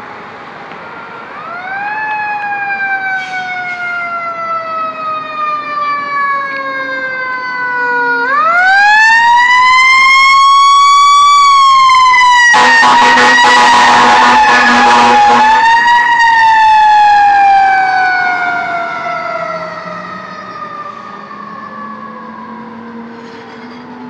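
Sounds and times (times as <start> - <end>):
fire engine siren wailing: 0.0 - 24.0.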